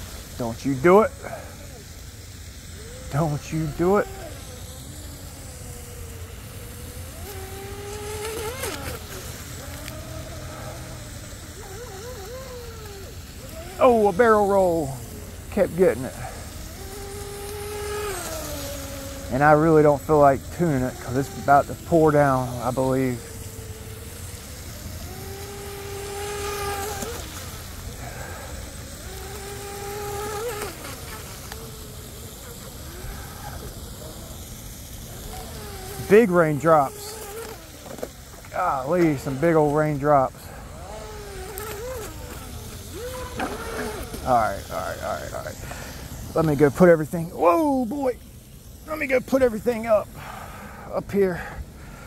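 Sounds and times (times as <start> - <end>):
electric motor whine: 0.0 - 52.0.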